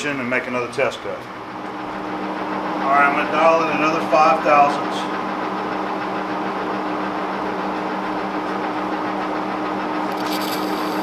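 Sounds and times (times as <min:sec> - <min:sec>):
lathe humming and whining: 0:00.0 - 0:11.0.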